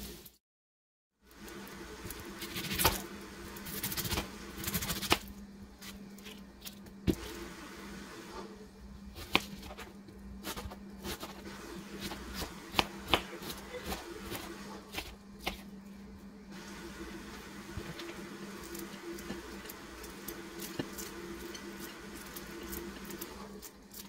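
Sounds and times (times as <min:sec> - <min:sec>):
steady low hum: 0:01.2 - 0:24.0.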